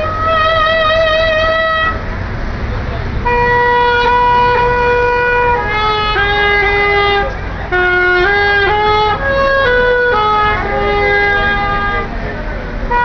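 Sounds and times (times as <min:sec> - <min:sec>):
saxophone melody: 0:00.0 - 0:02.0, 0:03.2 - 0:12.1
low traffic rumble: 0:00.0 - 0:13.0.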